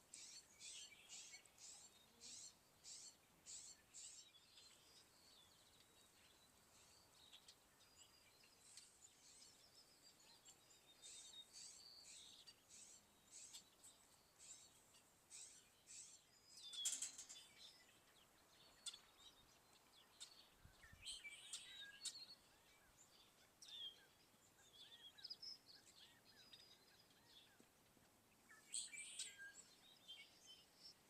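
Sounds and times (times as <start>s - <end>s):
birds chirping and trilling: 0.0s - 27.7s, 28.3s - 31.0s.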